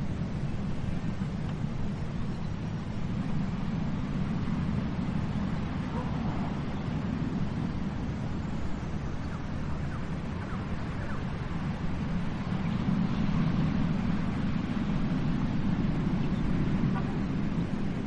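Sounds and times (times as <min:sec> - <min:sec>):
ocean surf on beach: 0:00.0 - 0:18.0.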